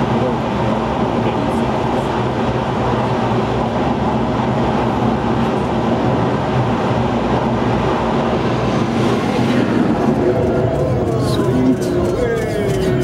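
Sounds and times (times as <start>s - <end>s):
jet engines at full power: 0.0s - 13.0s
loud steady rumble: 0.0s - 13.0s.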